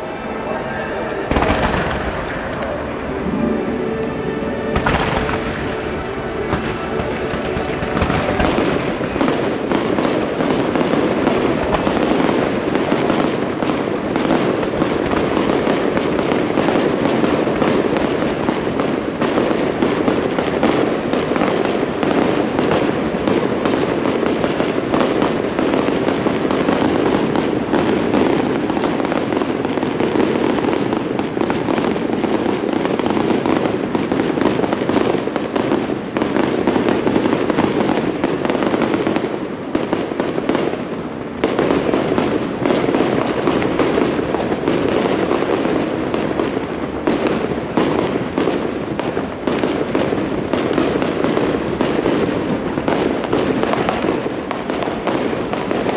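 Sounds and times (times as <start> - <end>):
fireworks crackling and bursting: 0.0 - 55.9.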